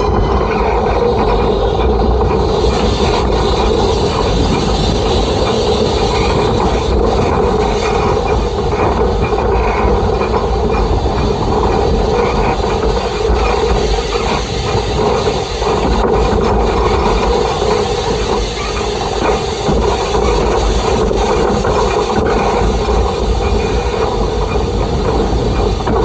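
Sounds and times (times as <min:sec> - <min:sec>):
steam locomotive rumble and hiss: 0:00.0 - 0:26.0.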